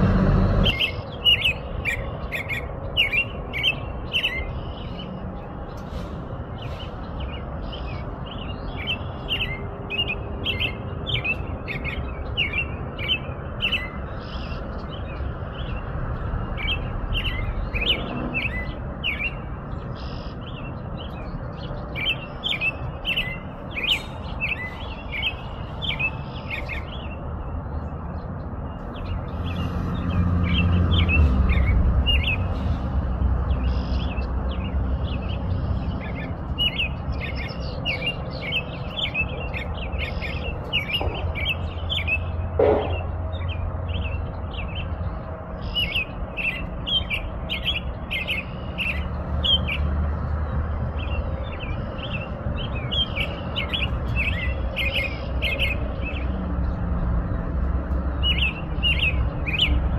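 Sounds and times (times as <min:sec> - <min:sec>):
steady background noise: 0:00.0 - 0:59.9
bird high chirping notes: 0:06.6 - 0:32.8, 0:33.5 - 0:49.9, 0:50.8 - 0:57.4.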